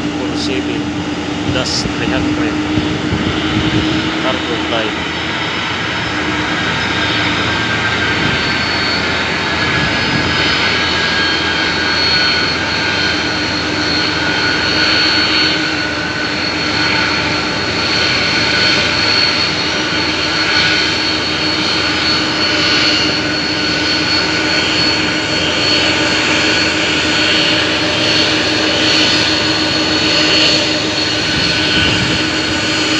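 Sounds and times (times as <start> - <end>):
jet engines roaring with whine: 0.0 - 32.9.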